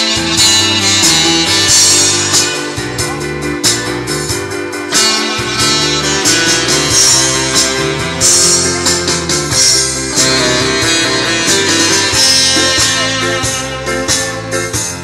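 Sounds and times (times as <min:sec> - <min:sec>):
live song with guitar and beat: 0:00.0 - 0:15.0.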